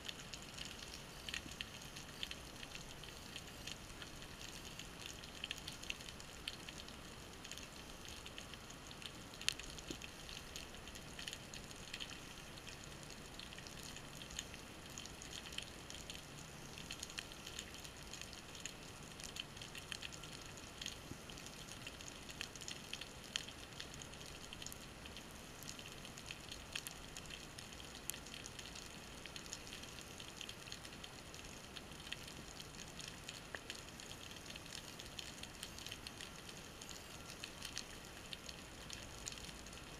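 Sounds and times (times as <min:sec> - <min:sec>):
underwater crackle of tiny clicks: 0:00.0 - 0:39.9.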